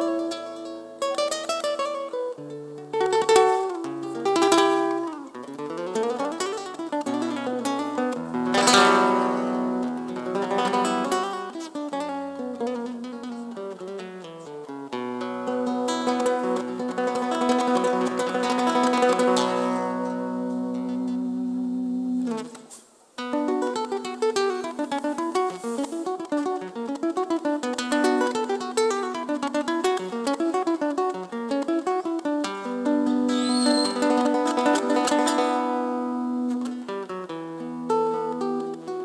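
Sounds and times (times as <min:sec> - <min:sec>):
acoustic guitar playing: 0:00.0 - 0:39.0.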